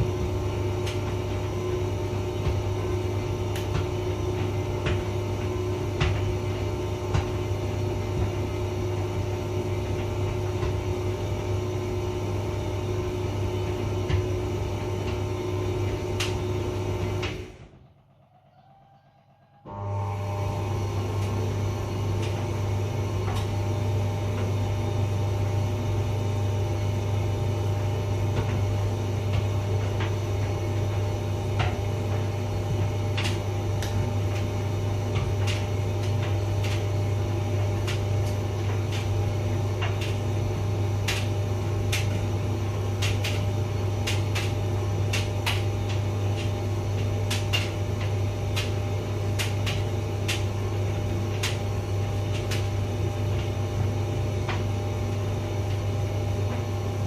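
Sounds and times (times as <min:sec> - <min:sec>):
clicks and taps in dryer: 0:00.0 - 0:17.5, 0:22.2 - 0:23.6, 0:27.3 - 0:57.0
tumble dryer motor hum: 0:00.0 - 0:18.4, 0:19.2 - 0:57.0.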